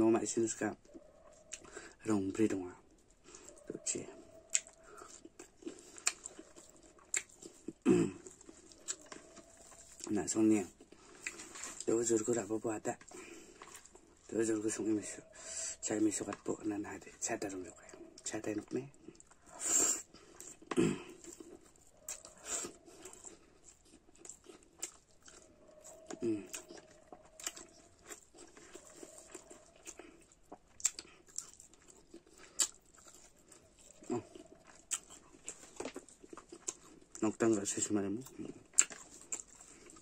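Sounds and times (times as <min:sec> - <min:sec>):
wet chewing and lip-smacking: 0:00.8 - 0:02.0, 0:02.8 - 0:40.0
person eating by hand: 0:02.8 - 0:40.0.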